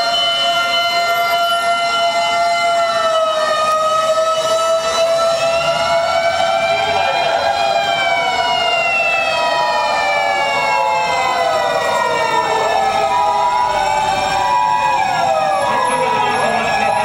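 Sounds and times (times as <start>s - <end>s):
fire engine sirens wailing: 0.0s - 17.0s.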